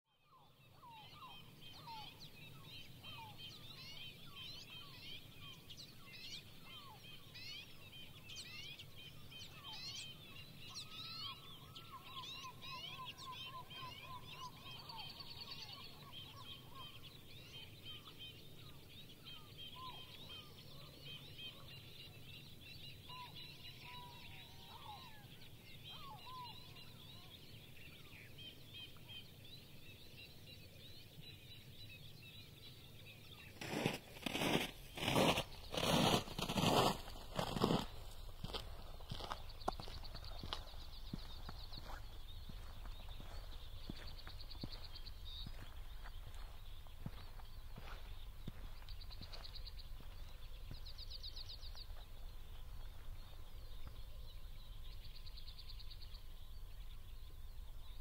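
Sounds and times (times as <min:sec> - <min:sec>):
small birds twittering: 0:00.2 - 0:58.0.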